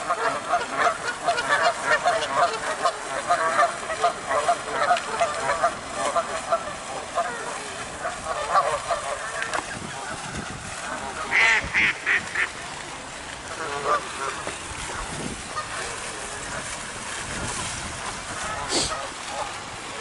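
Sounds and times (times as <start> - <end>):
geese honking: 0.0 - 20.0
waterfowl calls: 0.0 - 20.0.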